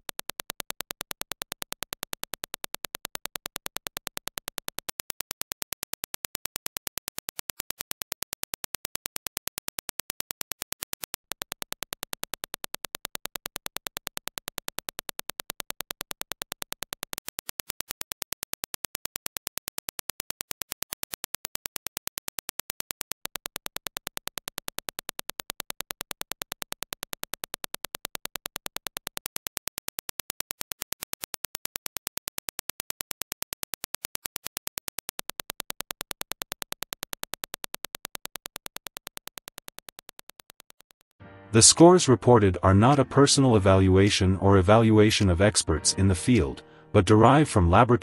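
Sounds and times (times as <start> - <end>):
rapid sharp clicks: 0.0 - 41.2.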